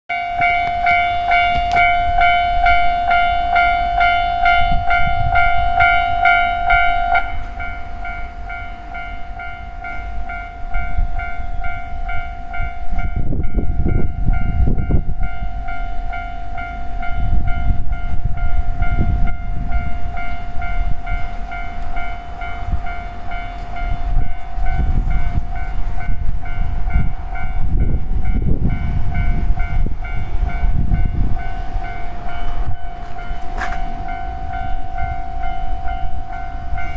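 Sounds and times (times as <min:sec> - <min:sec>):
level-crossing alarm ringing: 0:00.1 - 0:36.9
train rumbling over crossing: 0:00.1 - 0:36.9
train wheel clatter: 0:04.6 - 0:36.9.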